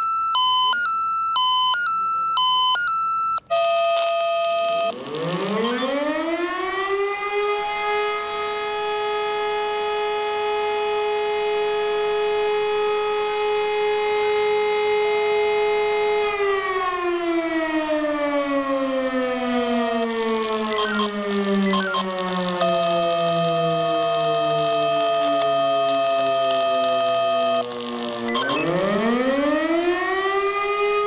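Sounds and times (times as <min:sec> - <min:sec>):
rotary siren howling: 0:00.0 - 0:31.0.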